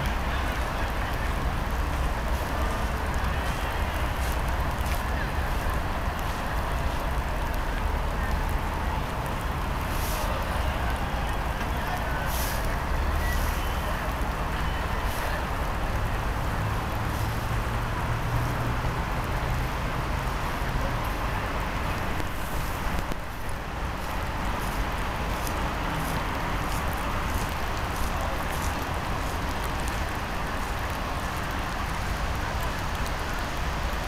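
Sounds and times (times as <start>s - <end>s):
distant traffic rumble: 0.0s - 34.0s
rain hiss: 0.0s - 34.0s.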